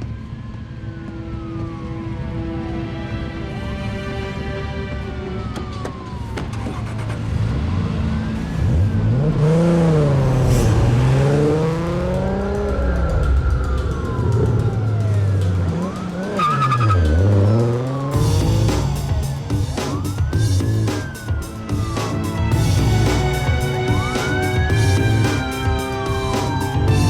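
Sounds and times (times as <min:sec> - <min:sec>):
police sirens wailing: 0:00.0 - 0:27.0
car engine revving: 0:05.0 - 0:27.0.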